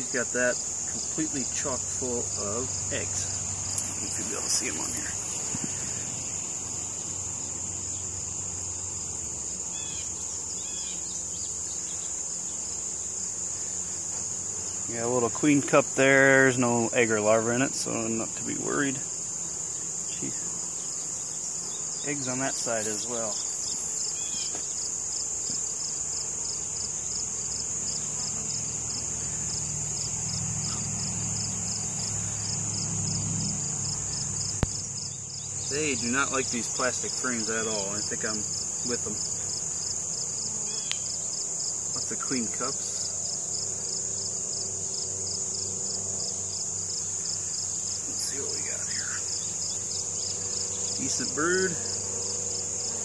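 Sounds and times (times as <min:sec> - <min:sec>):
high-pitched insect drone: 0:00.0 - 0:53.0
honeybees humming: 0:00.0 - 0:53.0.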